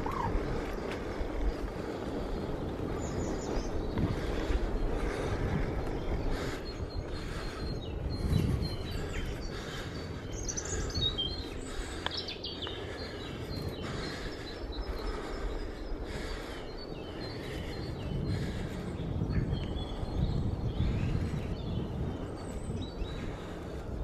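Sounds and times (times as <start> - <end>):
small birds chirping: 0.0 - 24.0
wind on microphone: 0.0 - 24.0.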